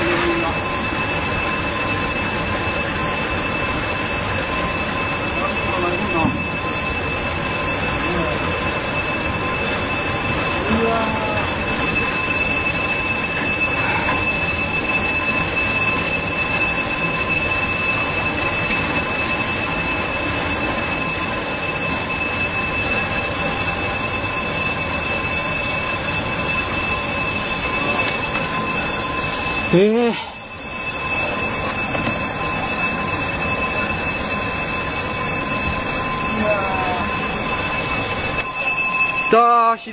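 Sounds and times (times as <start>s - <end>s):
high-pitched squeal: 0.0s - 39.9s.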